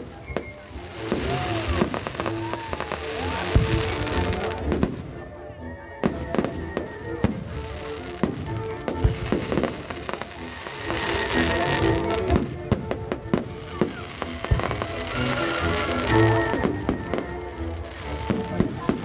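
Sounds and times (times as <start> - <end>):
fireworks and firecrackers banging: 0.0 - 19.0
music playing: 0.0 - 19.0.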